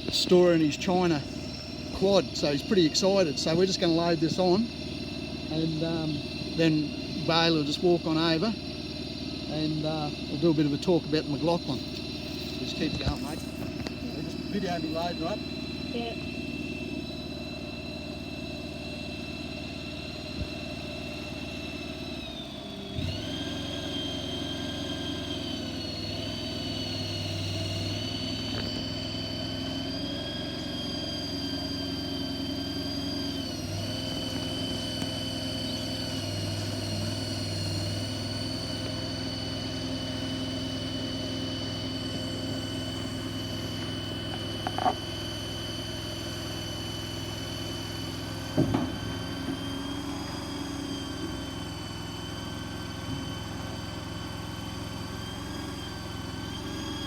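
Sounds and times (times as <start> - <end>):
loader engine high whine: 0.0 - 57.0.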